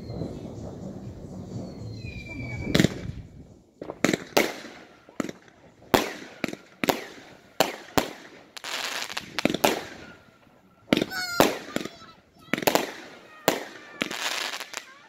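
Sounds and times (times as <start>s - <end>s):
fireworks banging: 0.0s - 15.0s
fireworks crackling: 0.0s - 15.0s.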